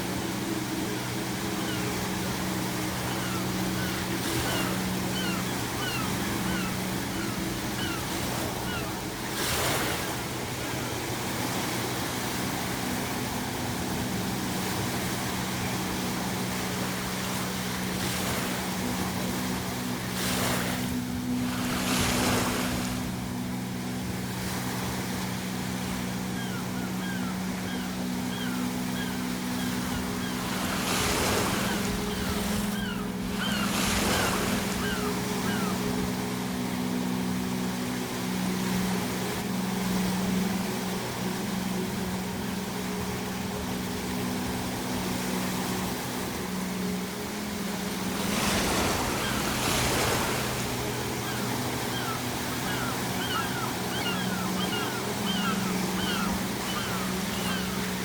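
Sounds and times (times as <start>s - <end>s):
seagulls crying: 0.0s - 11.7s, 14.6s - 40.5s, 46.5s - 58.0s
low background drone: 0.0s - 58.0s
ocean waves breaking: 0.0s - 58.0s.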